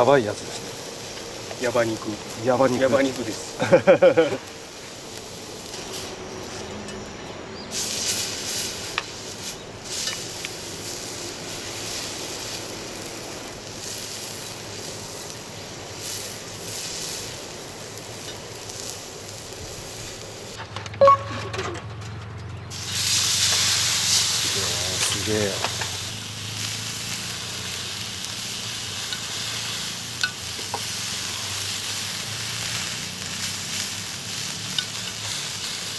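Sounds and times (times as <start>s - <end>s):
steak sizzling on griddle: 0.0s - 20.6s, 22.6s - 35.9s.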